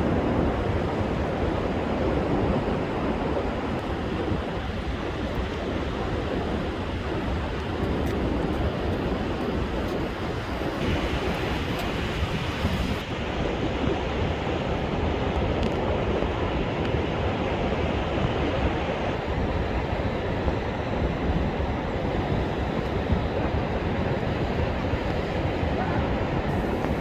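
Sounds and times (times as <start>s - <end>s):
strong wind: 0.0s - 27.0s
surf breaking on beach: 0.0s - 27.0s.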